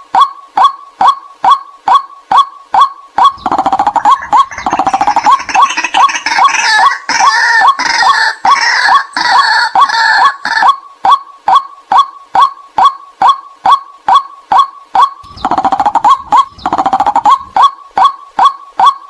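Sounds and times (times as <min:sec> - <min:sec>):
waterhen calls: 0:00.2 - 0:19.0.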